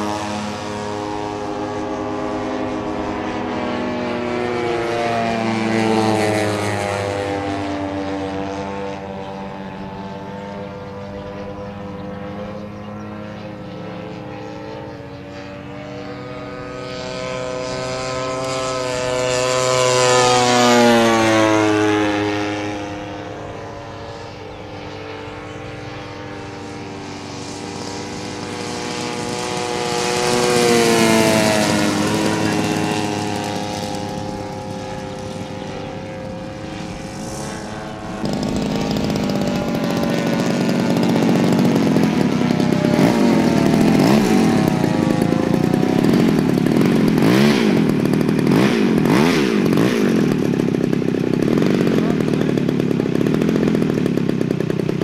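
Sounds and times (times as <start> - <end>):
model plane engines and propellers: 0.0 - 55.0.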